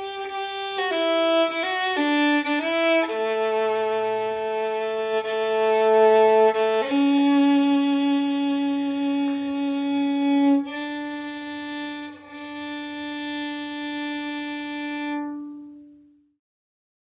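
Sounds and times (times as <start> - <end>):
slow violin music: 0.0 - 16.2.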